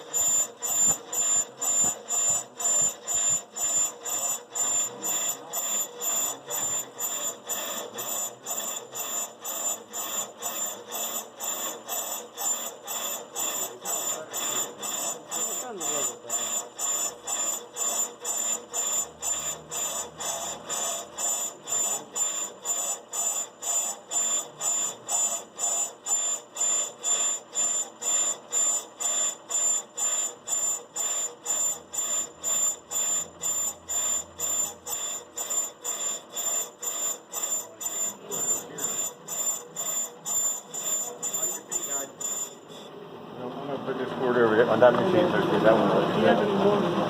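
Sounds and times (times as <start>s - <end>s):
pulsing high-pitched lathe squeal: 0.0s - 43.0s.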